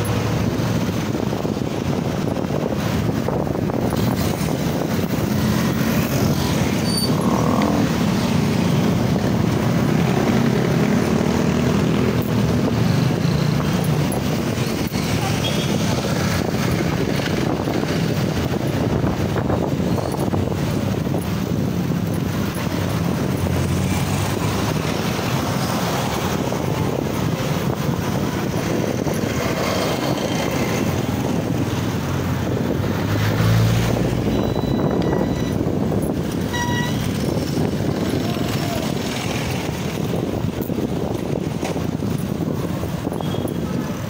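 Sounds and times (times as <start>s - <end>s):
motorcycle and car engines: 0.0s - 44.0s
wind on microphone: 0.0s - 44.0s.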